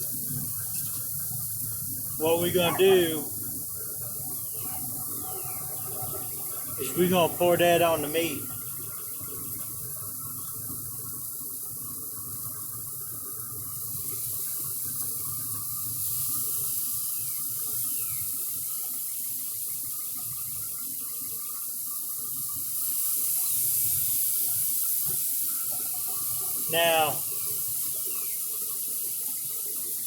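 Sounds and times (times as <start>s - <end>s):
steaks sizzling on a grill: 0.0s - 30.0s.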